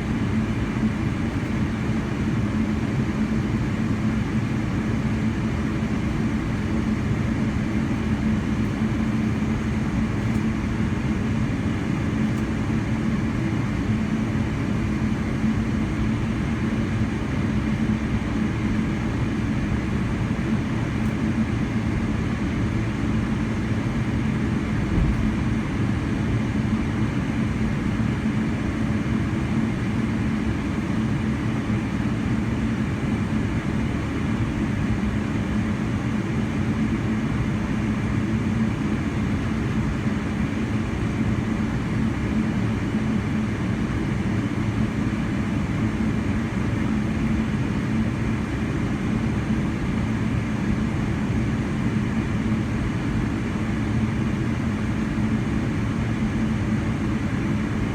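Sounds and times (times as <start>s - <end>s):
aircraft cabin engine hum: 0.0s - 57.9s.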